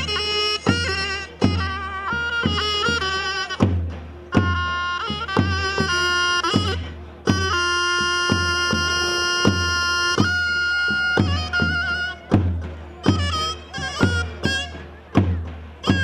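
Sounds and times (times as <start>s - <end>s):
davul drum beats: 0.0s - 16.0s
zurna melody: 0.0s - 16.0s.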